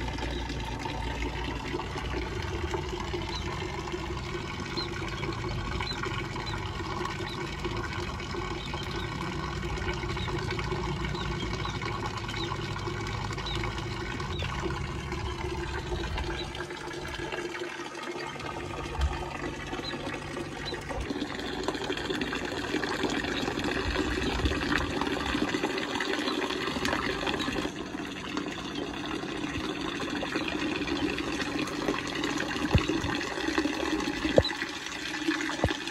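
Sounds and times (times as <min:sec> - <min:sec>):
water pouring into a basin: 0:00.0 - 0:35.9.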